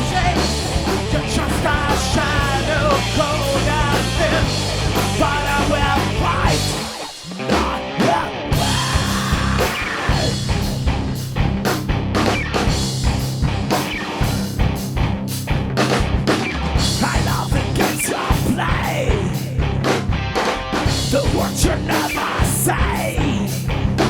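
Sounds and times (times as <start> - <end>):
electric guitars: 0.0 - 24.0
heavy rock drum kit: 0.0 - 24.0.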